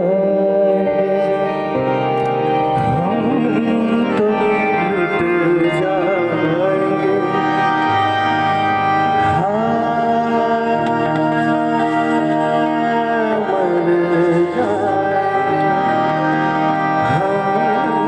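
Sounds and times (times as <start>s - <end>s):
man singing ornamented line: 0.0s - 2.0s, 2.6s - 8.3s, 9.1s - 18.0s
harmonium and keyboard chords: 0.0s - 18.0s
tabla: 2.7s - 17.8s.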